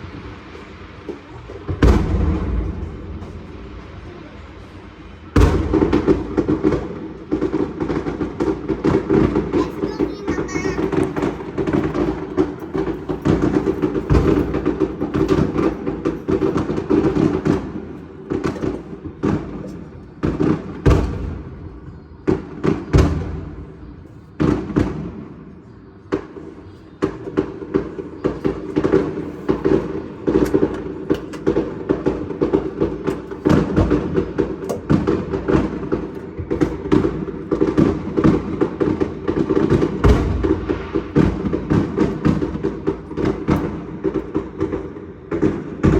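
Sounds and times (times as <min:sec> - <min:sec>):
fireworks bangs and crackling pops: 0:00.0 - 0:45.9.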